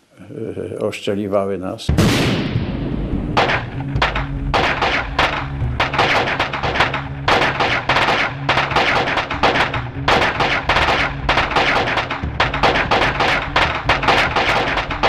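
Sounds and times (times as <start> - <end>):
rapid gunfire: 2.0 - 15.0.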